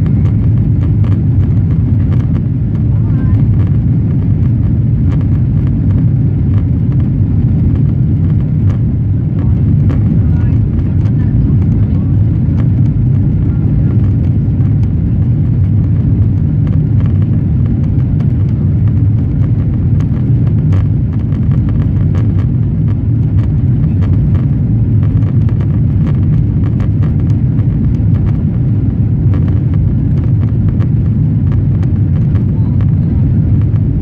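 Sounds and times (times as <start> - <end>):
airplane engines rumbling: 0.0 - 34.0.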